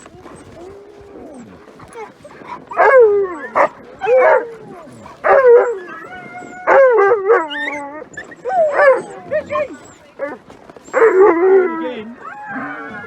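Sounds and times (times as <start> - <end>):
dog howling: 0.0 - 13.0
dog yelp: 0.0 - 13.0.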